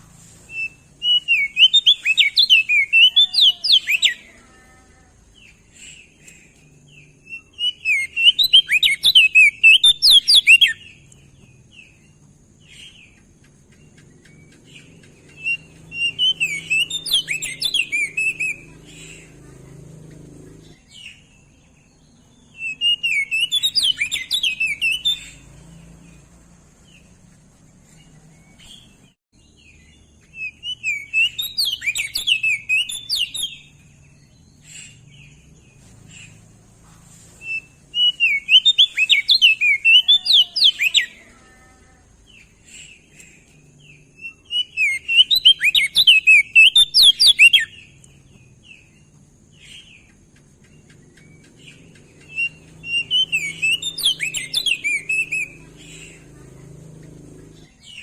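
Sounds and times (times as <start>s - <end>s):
bird chirping rapidly: 0.1s - 4.4s, 5.3s - 41.3s, 42.2s - 58.0s.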